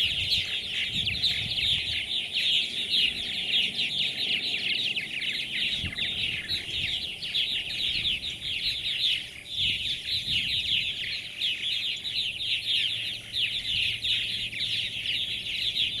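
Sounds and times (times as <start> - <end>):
birds chattering: 0.0 - 16.0.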